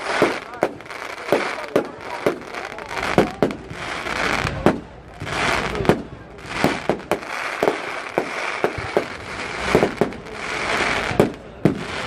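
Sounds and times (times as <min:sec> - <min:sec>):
fireworks bangs and cracks: 0:00.0 - 0:12.0
fireworks hiss: 0:00.0 - 0:12.0.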